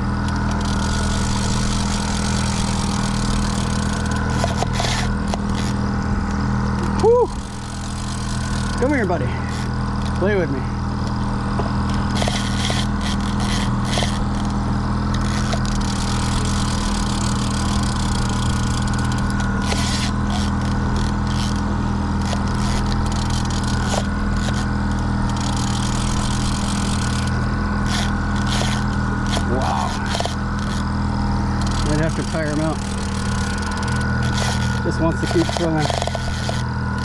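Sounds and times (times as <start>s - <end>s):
boat engine humming: 0.0s - 37.0s.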